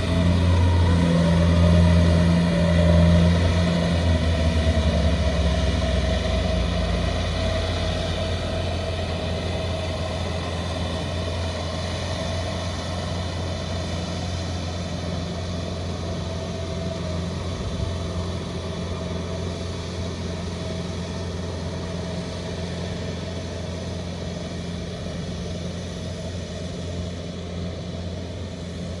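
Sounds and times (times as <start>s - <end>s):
combine harvester diesel engine: 0.0s - 29.0s.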